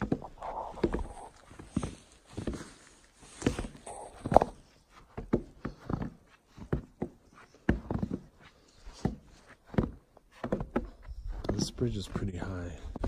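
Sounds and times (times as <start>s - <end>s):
footsteps on wooden planks: 0.0s - 13.0s.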